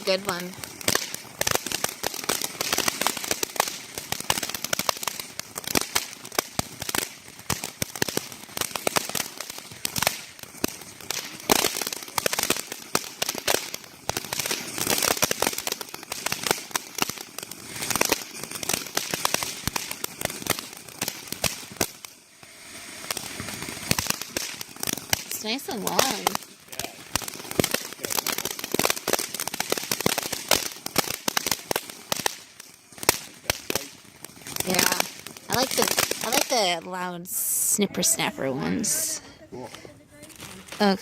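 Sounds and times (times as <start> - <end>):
firework crackling and popping: 0.0 - 41.0.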